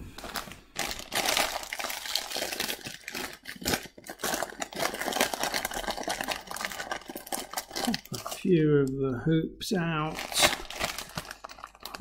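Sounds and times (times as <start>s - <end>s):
crisp packet crinkling: 0.2s - 8.6s, 10.1s - 12.0s.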